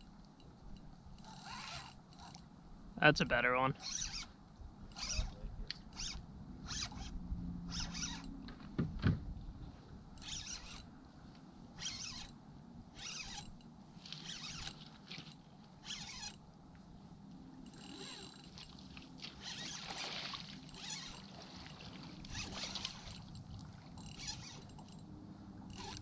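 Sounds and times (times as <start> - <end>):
fishing reel buzzing: 0.7 - 2.5, 3.7 - 8.5, 10.0 - 26.0.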